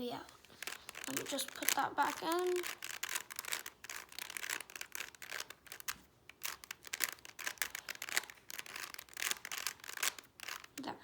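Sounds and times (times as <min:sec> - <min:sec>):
puzzle cube clicking and scraping: 0:00.0 - 0:10.9.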